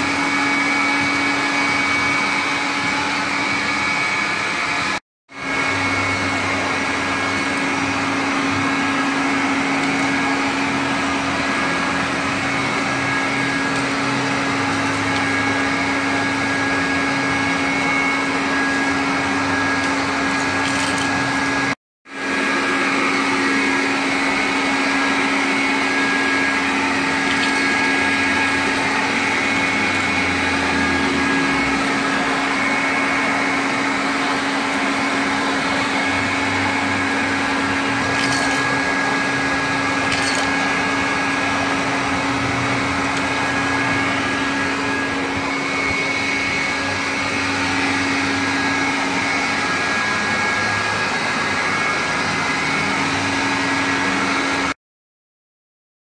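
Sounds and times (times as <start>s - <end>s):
vacuum cleaner humming and whining: 0.0s - 54.8s.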